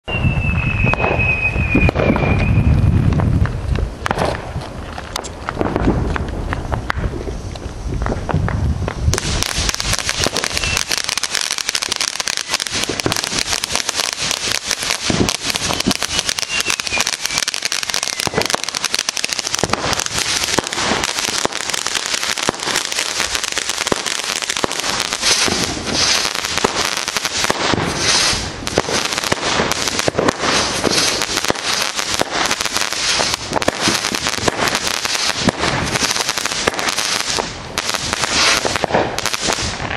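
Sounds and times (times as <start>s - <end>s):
firework crackling: 0.1s - 39.9s
firework shots and aerial bursts: 0.1s - 39.9s.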